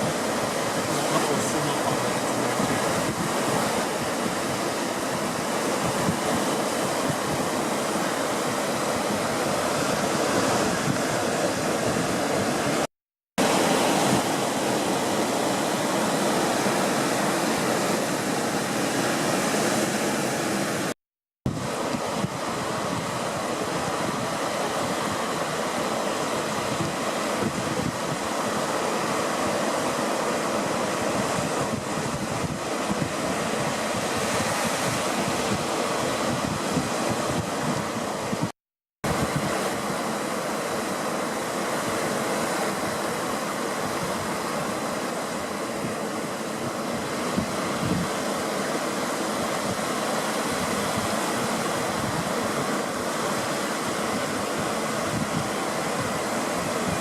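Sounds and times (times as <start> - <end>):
wind noise on microphone: 0.0 - 29.8, 30.4 - 40.9, 41.5 - 57.0
beach surf: 0.0 - 57.0.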